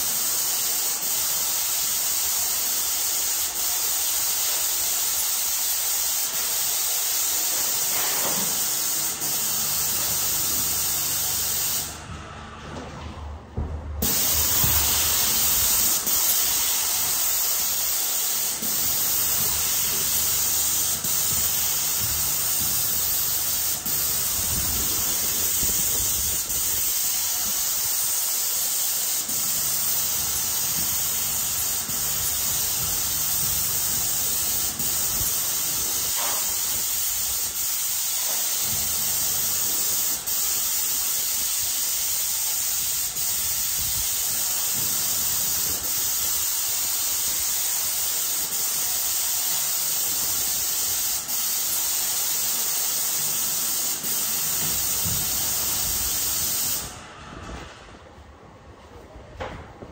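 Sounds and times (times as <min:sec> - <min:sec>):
paint sprayer hissing: 0:00.0 - 0:12.0, 0:14.0 - 0:57.0.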